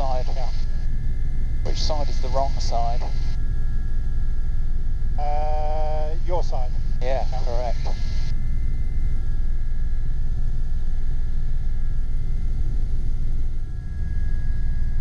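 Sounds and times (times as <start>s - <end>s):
helicopter rotor rumble: 0.0s - 13.7s
helicopter turbine whine: 0.0s - 15.0s.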